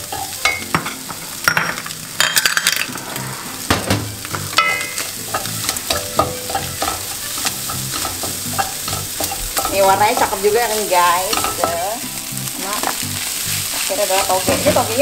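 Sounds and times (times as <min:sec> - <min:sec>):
food sizzling: 0:00.0 - 0:15.0
wooden spatula scraping a wok: 0:02.9 - 0:15.0.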